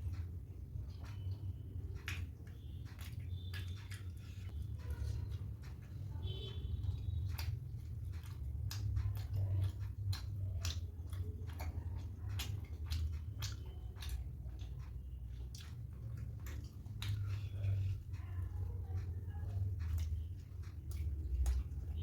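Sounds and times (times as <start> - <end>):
close chewing mouth sounds: 0.0 - 22.0.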